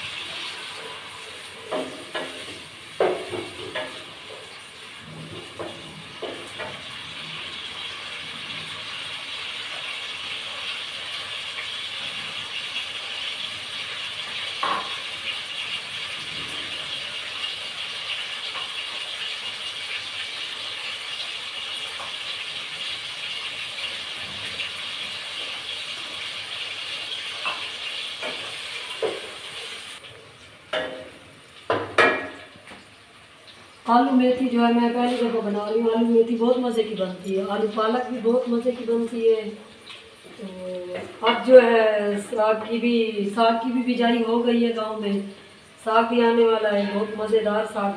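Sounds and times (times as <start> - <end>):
food sizzling in a pot: 0.0 - 47.9.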